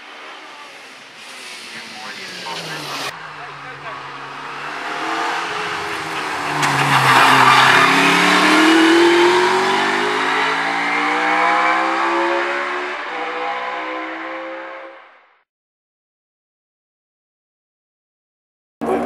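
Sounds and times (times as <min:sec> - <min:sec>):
racing car accelerating with upshifts: 0:00.0 - 0:15.4.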